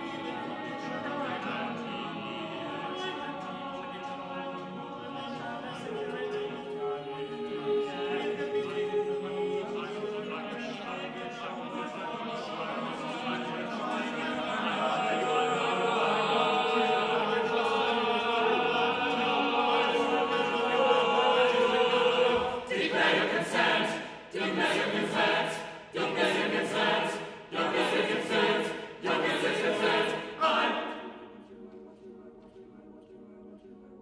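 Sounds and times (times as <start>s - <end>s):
choir singing a cappella: 0.0s - 34.0s.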